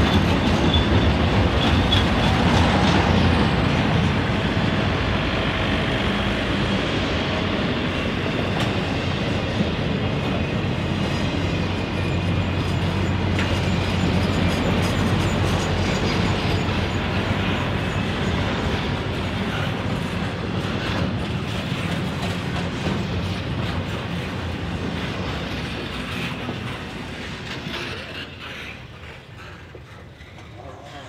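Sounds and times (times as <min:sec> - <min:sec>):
train rolling on rails: 0:00.0 - 0:31.0.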